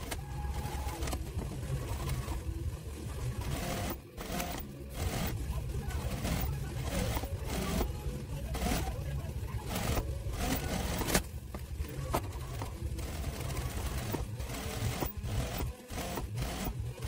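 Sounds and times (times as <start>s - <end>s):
sewing machine stitching: 0.0s - 11.4s, 12.0s - 17.0s.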